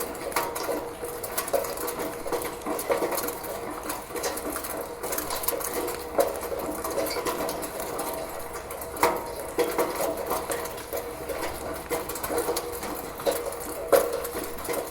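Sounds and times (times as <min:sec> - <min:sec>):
rain dripping on gutter: 0:00.0 - 0:14.9
steady rain wash: 0:00.0 - 0:14.9.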